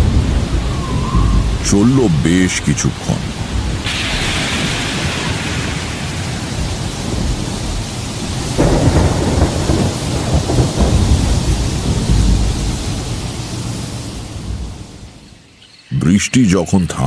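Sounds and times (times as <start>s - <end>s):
thunder rumbling: 0.0s - 15.5s
heavy rain: 0.0s - 17.0s.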